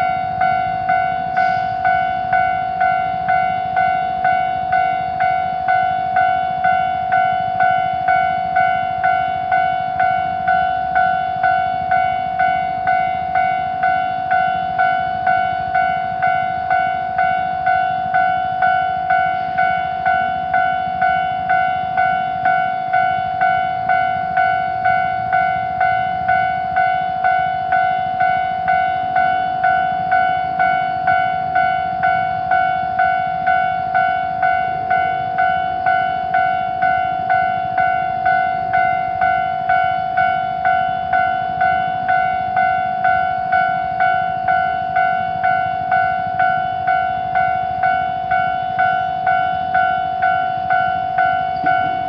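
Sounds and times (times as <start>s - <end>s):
railroad crossing electronic bell: 0.0s - 52.0s.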